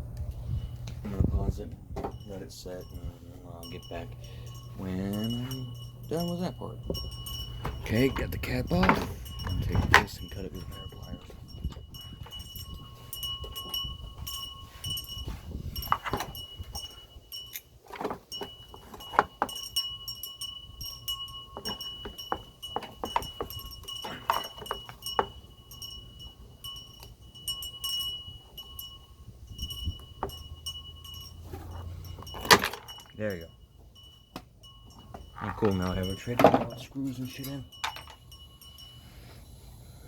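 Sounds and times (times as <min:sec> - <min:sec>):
low steady hum: 0:00.0 - 0:40.0
metal tools clinking: 0:00.4 - 0:39.0.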